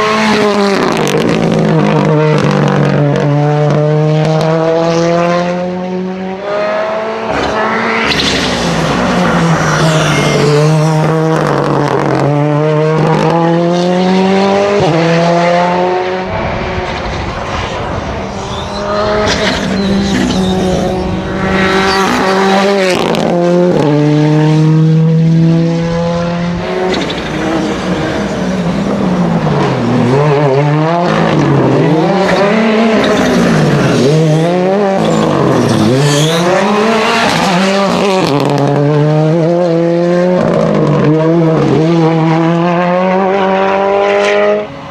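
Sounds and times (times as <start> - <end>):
rally car engine accelerating: 0.0 - 44.9.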